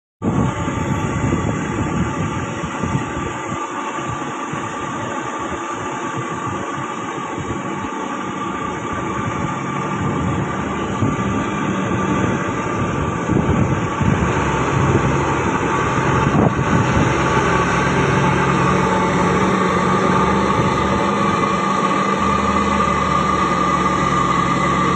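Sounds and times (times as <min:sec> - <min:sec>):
diesel truck engine droning: 0:00.2 - 0:24.9.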